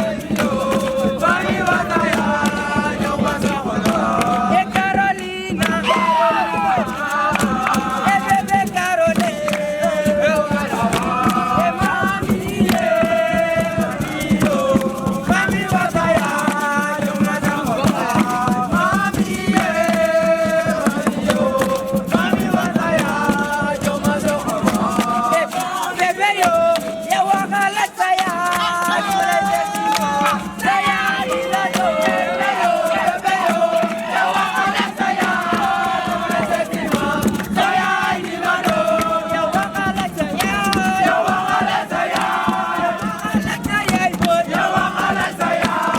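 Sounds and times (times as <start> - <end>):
group of voices chanting: 0.0 - 45.9
rhythmic percussion: 0.0 - 45.9.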